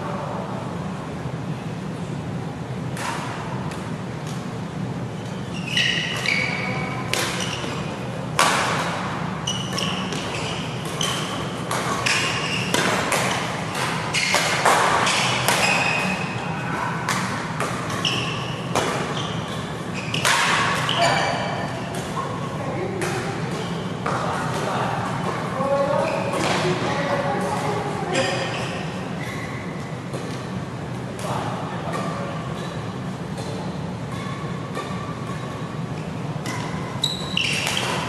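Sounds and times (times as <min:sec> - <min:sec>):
steady low hum: 0:00.0 - 0:38.0
shoes squeaking on court: 0:04.3 - 0:30.6, 0:32.0 - 0:38.0
rackets striking shuttlecock: 0:05.2 - 0:16.4, 0:17.0 - 0:25.5, 0:26.1 - 0:38.0.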